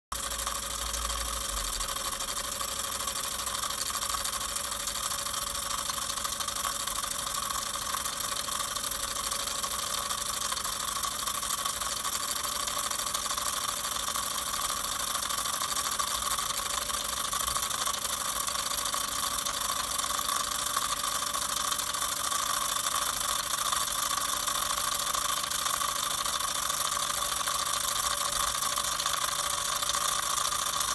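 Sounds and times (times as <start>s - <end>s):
model steam engine running: 0.2s - 30.9s.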